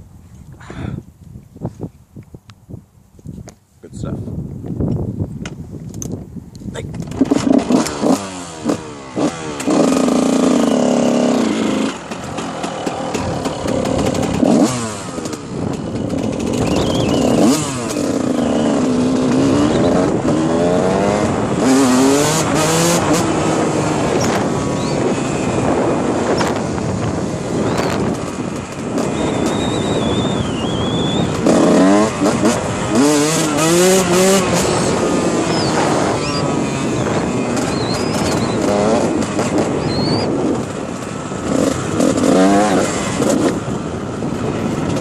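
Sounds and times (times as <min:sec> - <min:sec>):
steady rushing noise: 0:03.8 - 0:45.0
dirt bike engine revving: 0:07.0 - 0:45.0.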